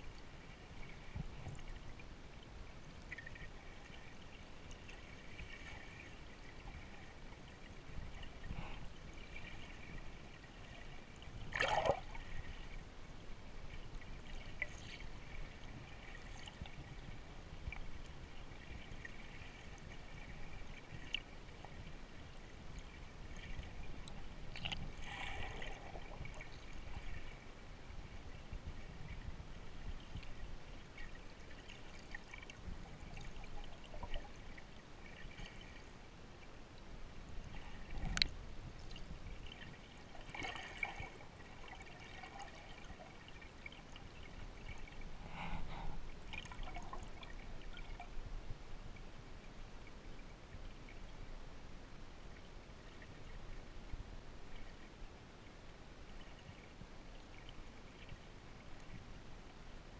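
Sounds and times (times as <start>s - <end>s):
underwater water sloshing: 0.0s - 51.1s.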